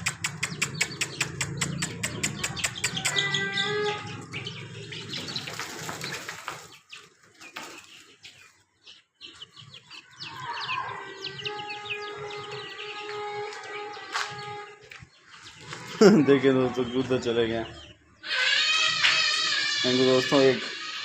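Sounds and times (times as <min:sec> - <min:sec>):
hen calling: 0:00.0 - 0:07.0, 0:09.3 - 0:21.0
chicks peeping: 0:00.0 - 0:21.0.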